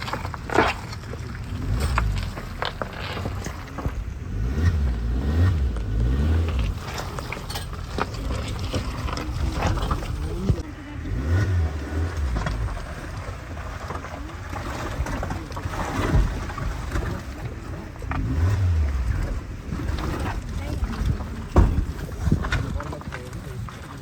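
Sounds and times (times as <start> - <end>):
car engine labouring: 0.0 - 24.0
vehicle knocks and rattles: 0.0 - 24.0.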